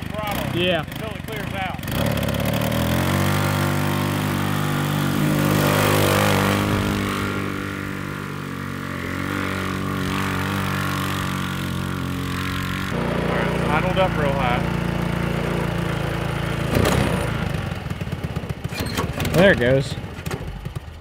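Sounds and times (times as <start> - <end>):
go kart engine droning: 0.0 - 21.0.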